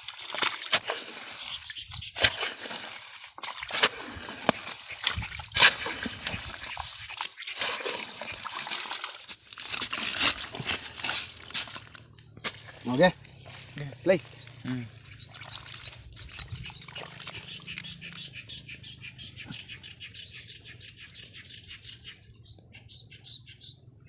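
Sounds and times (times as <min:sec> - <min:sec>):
muddy water sloshing and splashing: 0:00.0 - 0:19.8.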